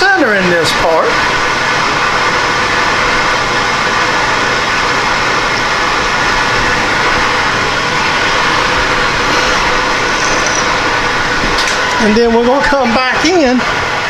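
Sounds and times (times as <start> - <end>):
metalworking machine whirring: 0.2 - 14.0.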